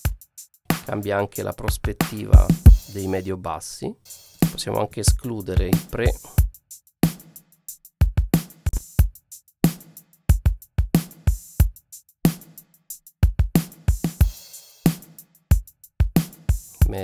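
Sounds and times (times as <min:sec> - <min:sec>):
drum kit groove: 0:00.0 - 0:03.2, 0:04.1 - 0:17.0.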